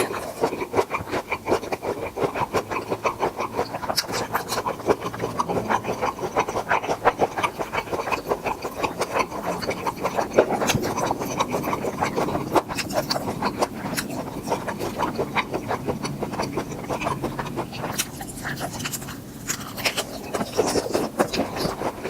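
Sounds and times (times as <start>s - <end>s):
lip smacking: 0.0s - 22.0s
wet chewing: 0.0s - 22.0s.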